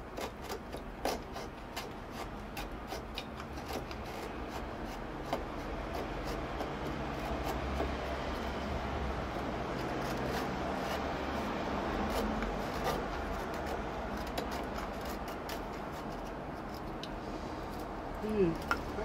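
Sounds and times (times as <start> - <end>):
knife scraping dry wood: 0.0 - 19.0.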